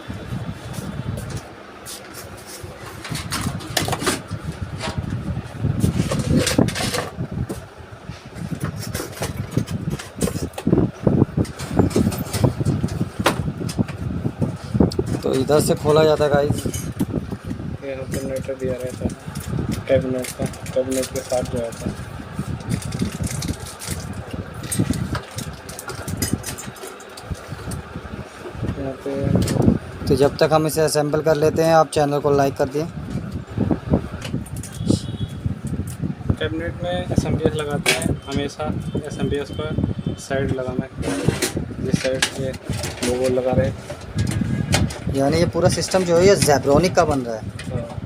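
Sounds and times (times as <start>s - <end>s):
low rumbling: 0.0s - 48.0s.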